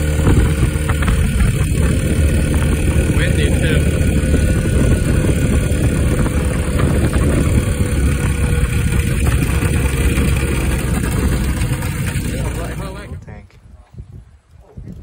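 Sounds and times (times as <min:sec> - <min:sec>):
ultralight aircraft engine running: 0:00.0 - 0:13.2.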